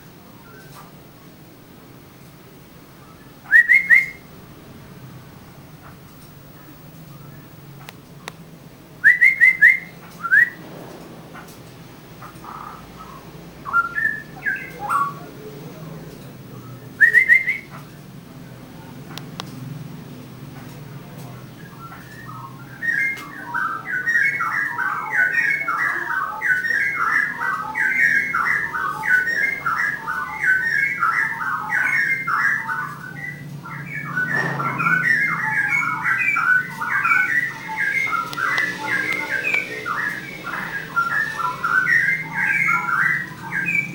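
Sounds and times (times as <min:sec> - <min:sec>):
songbird singing: 0:00.0 - 0:10.7, 0:11.3 - 0:43.9.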